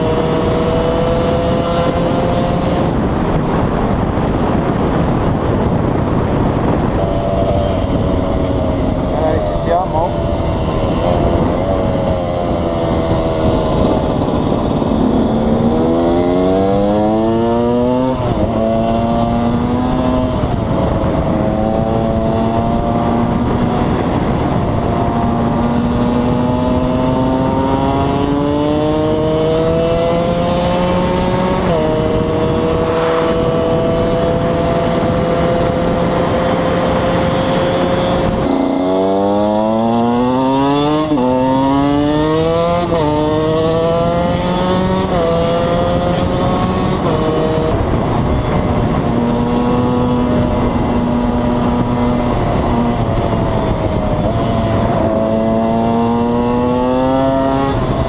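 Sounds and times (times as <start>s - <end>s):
motorcycle engine shifting gears: 0.0s - 58.0s.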